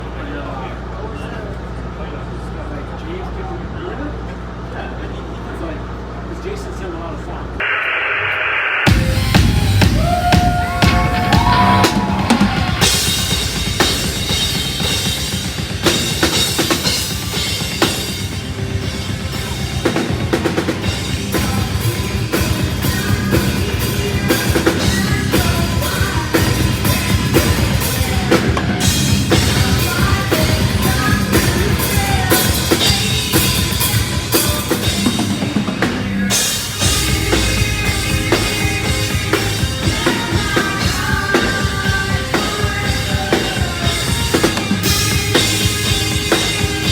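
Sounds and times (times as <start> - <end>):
heavy metal band playing: 8.8 - 46.9
fast bass drum and snare hits: 8.9 - 46.9.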